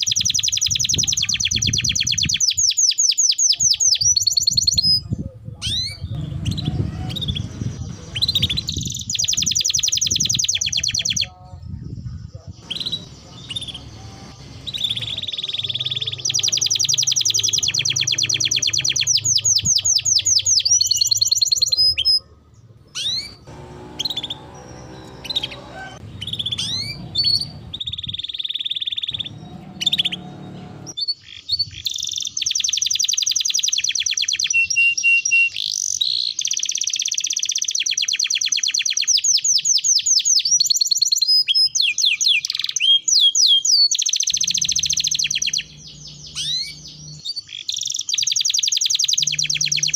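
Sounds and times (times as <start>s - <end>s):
canary trilling and chirping: 0.0s - 5.0s, 5.6s - 11.4s, 12.5s - 49.9s.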